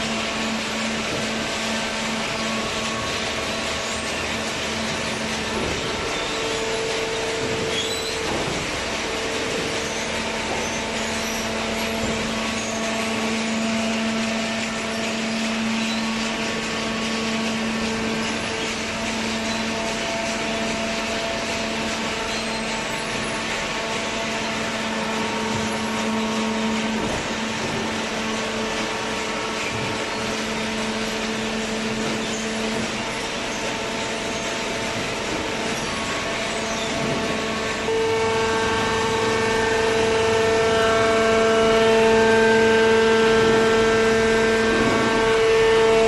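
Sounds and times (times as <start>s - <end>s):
hydraulic baler humming: 0.0s - 46.0s.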